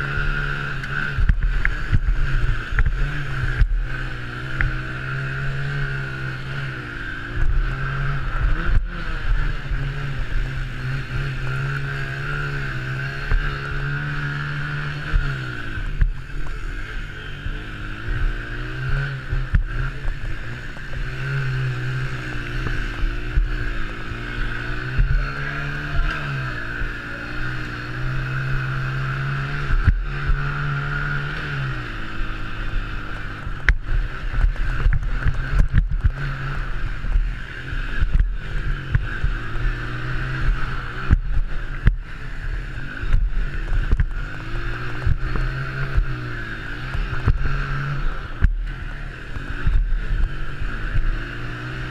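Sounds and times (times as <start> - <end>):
quad bike engine revving: 0.0 - 51.9.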